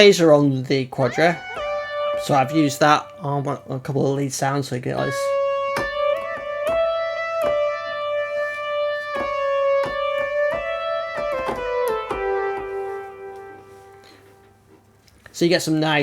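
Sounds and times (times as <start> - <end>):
synthesizer lead melody: 1.0 - 14.9.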